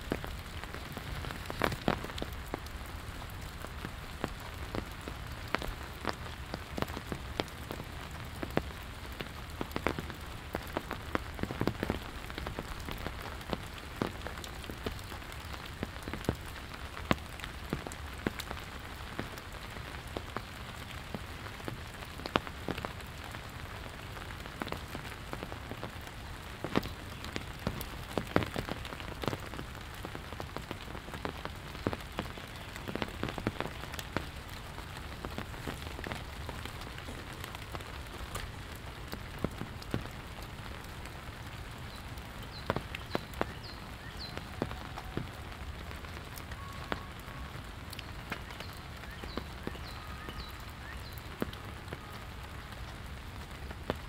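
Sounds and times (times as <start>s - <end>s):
raindrops tapping close by: 0.0s - 54.0s
steady rain hiss: 0.0s - 54.0s.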